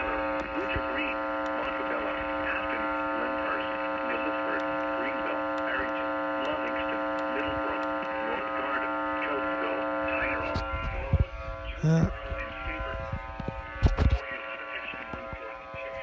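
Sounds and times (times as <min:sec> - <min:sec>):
steady electrical buzz: 0:00.0 - 0:14.2.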